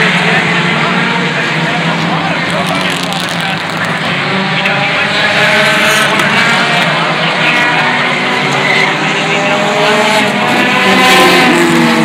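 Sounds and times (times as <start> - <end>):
racing car engines droning: 0.0 - 12.0.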